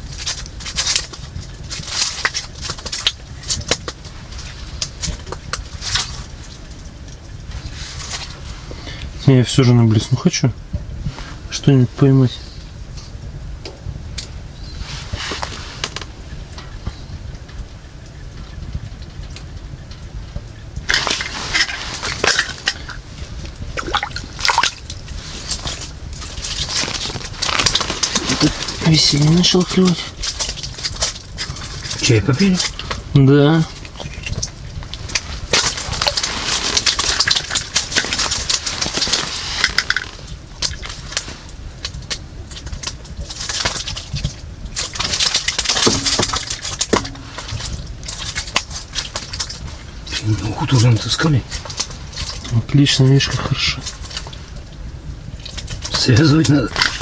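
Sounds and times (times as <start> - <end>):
clicks and crunching: 0.0 - 9.1, 15.2 - 57.0
water splashing and dripping: 0.0 - 10.0, 13.6 - 57.0.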